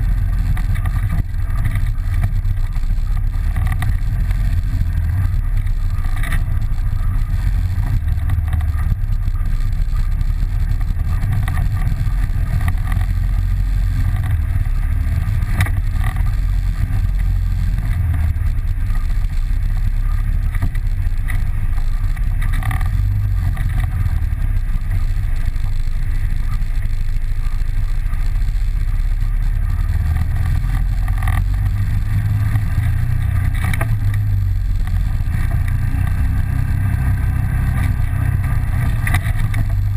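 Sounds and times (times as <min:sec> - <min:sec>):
atv engine rumbling: 0:00.0 - 0:39.9.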